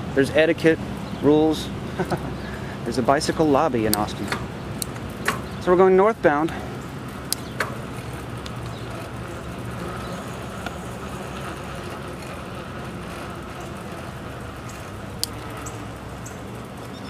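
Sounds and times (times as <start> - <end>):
bicycle rolling on pavement: 0.0 - 17.0.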